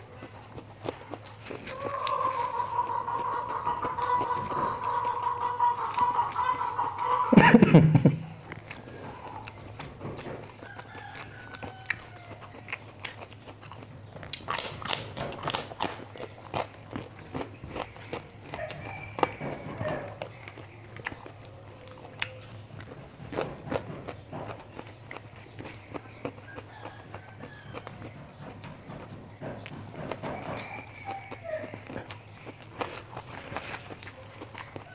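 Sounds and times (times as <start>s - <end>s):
chewing and crunching: 0.0s - 34.9s.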